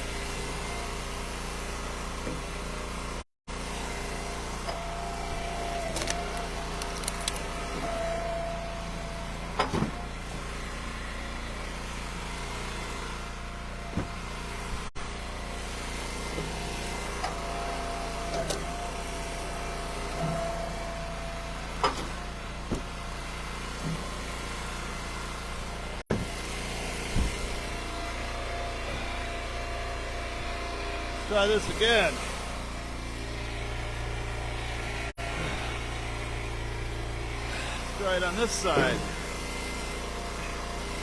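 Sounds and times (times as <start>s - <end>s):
wood splitter engine running: 0.0s - 41.0s.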